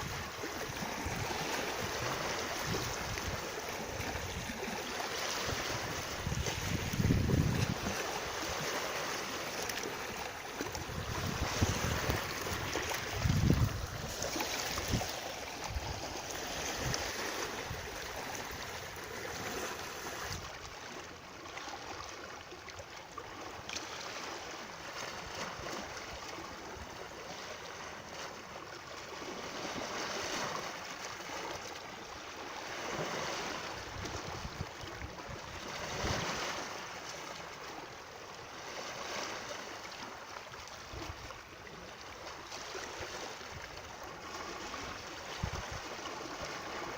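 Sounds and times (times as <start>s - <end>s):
running water rushing: 0.0s - 24.9s, 31.2s - 46.9s.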